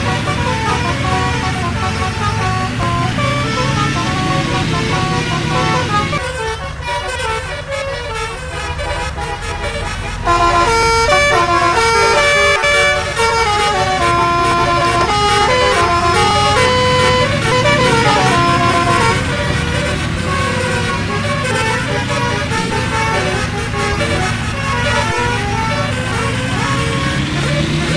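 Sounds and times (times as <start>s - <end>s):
bus engine rumble: 0.0s - 27.9s
musical air horn melody: 0.0s - 27.9s.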